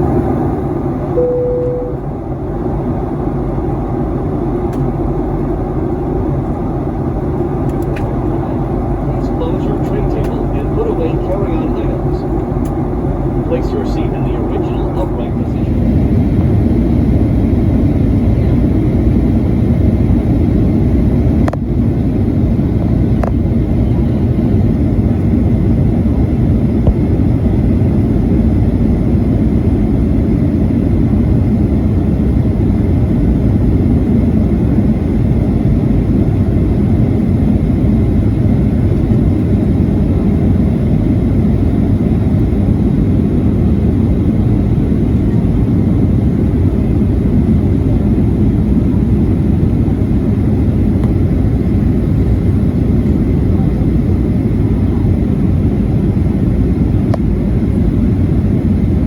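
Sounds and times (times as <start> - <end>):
jet engines roaring in cabin: 0.0 - 59.0.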